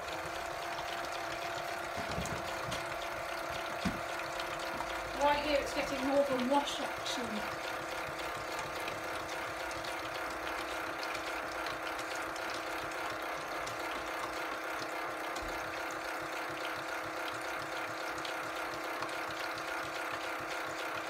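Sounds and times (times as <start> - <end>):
toy washing machine whirring: 0.0 - 21.0.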